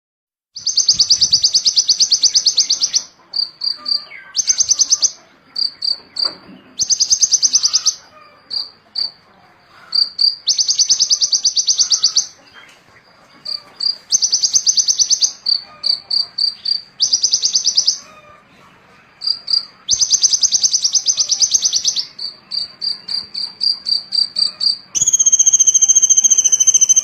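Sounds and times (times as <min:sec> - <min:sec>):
high bird chirps: 0:00.6 - 0:09.2, 0:09.8 - 0:18.2, 0:19.2 - 0:27.0
songbird singing rapid trills: 0:00.6 - 0:09.2, 0:09.9 - 0:12.7, 0:13.3 - 0:18.1, 0:19.2 - 0:27.0.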